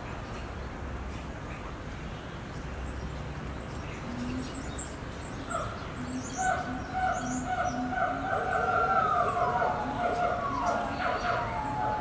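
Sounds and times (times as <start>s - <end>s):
birds chirping: 2.1s - 12.0s.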